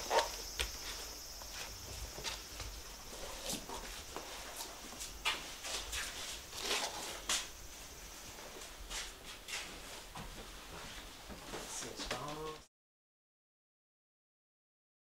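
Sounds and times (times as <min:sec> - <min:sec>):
footsteps on wooden floorboards: 0:00.0 - 0:12.6.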